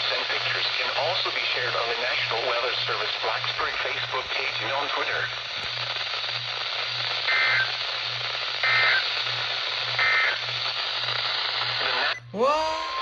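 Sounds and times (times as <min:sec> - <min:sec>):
radio static: 0:00.0 - 0:12.2.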